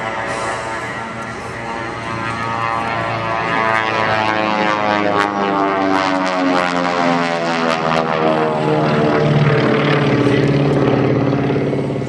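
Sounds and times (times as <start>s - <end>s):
propeller engines droning: 0.0s - 12.0s.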